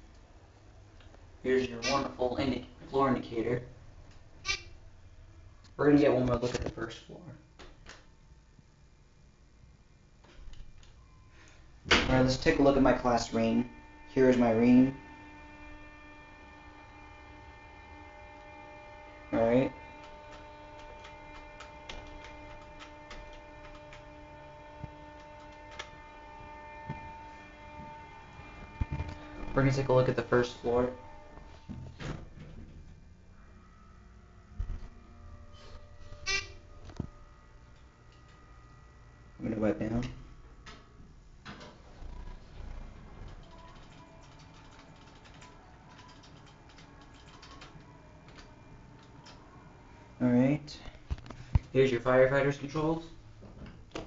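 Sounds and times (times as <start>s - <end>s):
elevator electrical hum: 0.0s - 54.0s.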